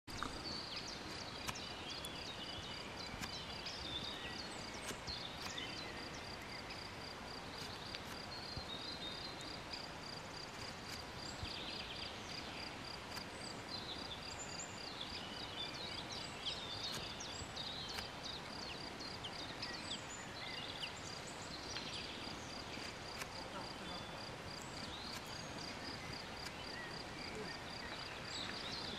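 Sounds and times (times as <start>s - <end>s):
bird chirps: 0.1s - 7.0s, 11.2s - 28.9s.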